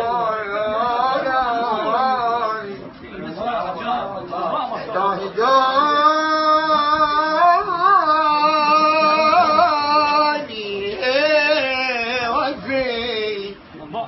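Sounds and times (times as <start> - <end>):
man singing: 0.0 - 2.7, 4.9 - 13.6.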